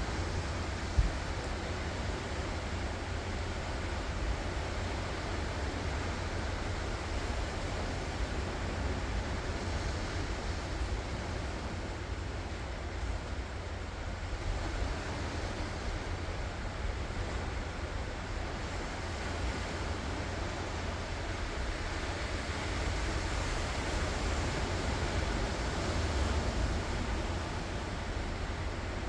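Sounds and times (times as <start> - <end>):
ocean waves on shore: 0.0 - 29.0.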